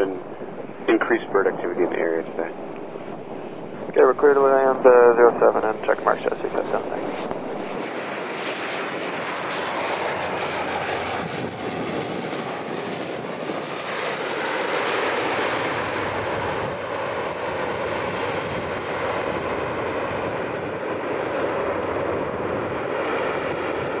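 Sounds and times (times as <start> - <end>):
turboprop engines rushing: 0.0 - 24.0.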